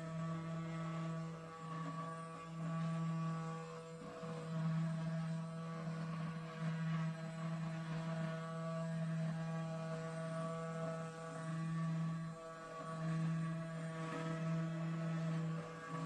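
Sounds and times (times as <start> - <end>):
router spindle motor humming: 0.0 - 16.0.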